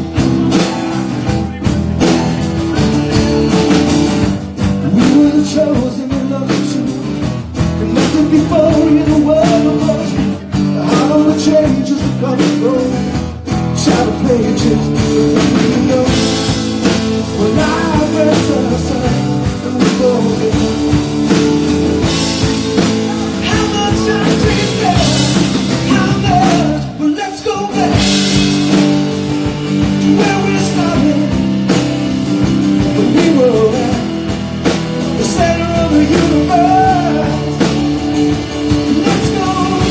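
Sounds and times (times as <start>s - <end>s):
live rock band playing: 0.0s - 39.9s
man singing: 0.0s - 39.9s.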